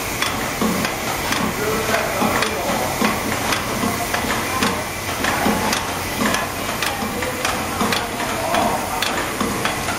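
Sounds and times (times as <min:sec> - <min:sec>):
pancake machine mechanism clacking: 0:00.2 - 0:09.9.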